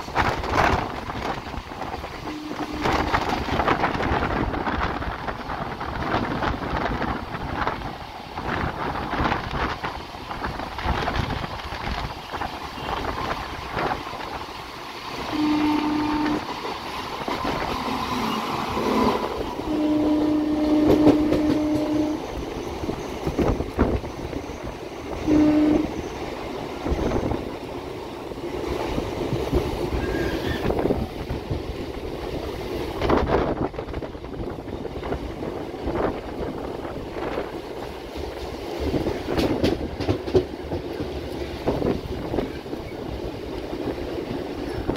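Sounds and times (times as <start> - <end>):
wind rushing over microphone: 0.0 - 15.3, 16.0 - 44.9
freight train running alongside: 0.0 - 44.9
train wheels clattering on rails: 0.0 - 44.9.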